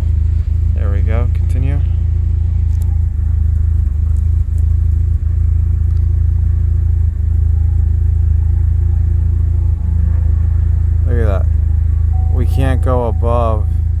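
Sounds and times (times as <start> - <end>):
rough car engine idling: 0.0 - 14.0.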